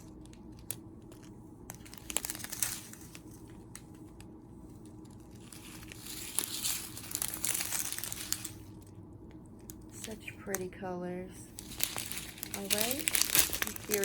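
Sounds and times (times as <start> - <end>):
plastic bags crinkling: 0.0 - 8.9, 11.5 - 14.0.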